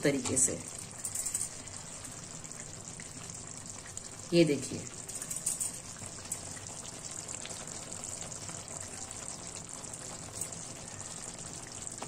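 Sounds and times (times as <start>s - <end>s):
gravy simmering: 0.0s - 12.0s.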